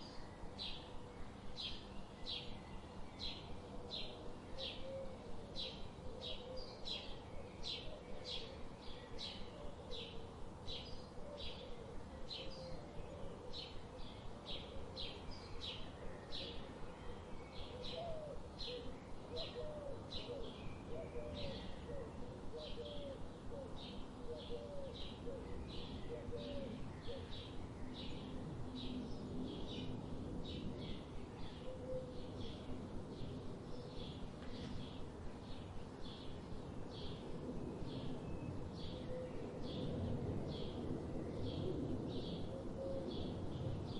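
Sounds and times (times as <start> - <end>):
faint outdoor hiss: 0.0 - 43.9.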